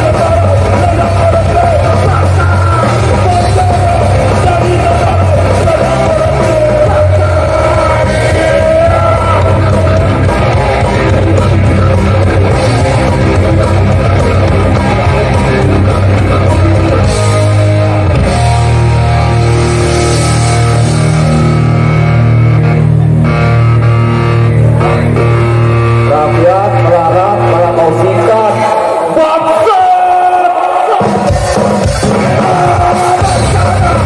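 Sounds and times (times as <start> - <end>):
hardcore band playing live: 0.0 - 34.0.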